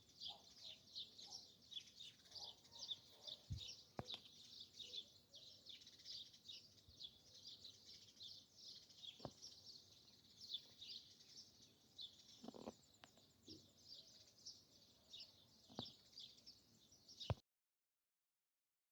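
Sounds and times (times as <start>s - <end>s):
songbirds chirping in chorus: 0.0s - 17.4s.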